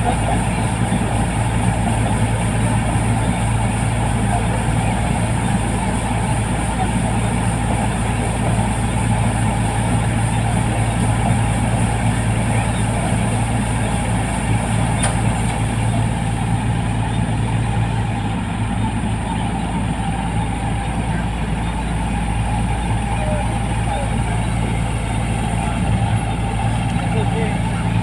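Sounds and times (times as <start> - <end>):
combine harvester engine drone: 0.0 - 28.0.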